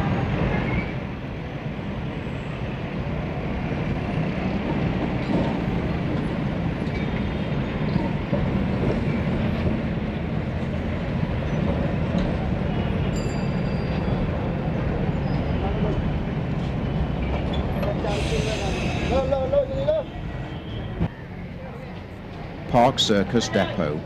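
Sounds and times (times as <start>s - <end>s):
tram rumbling on tracks: 0.0s - 24.0s.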